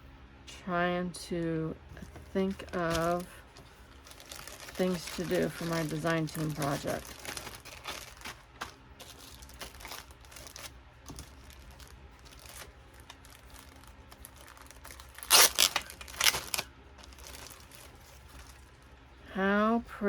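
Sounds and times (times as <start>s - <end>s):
packaging rustling: 2.0s - 19.0s.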